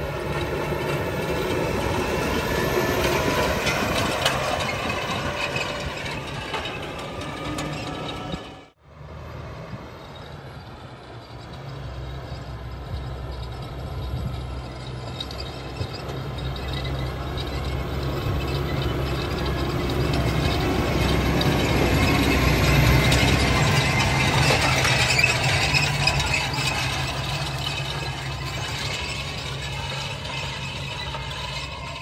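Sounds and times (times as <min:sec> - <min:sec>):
cultivator tines metallic rattle: 0:00.0 - 0:08.7, 0:10.2 - 0:32.0
tractor engine hum: 0:00.0 - 0:32.0.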